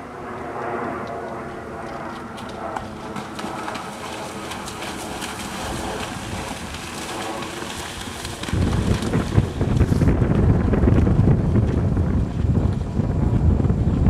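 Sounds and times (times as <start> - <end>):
hooves splashing through water: 0.3 - 14.0.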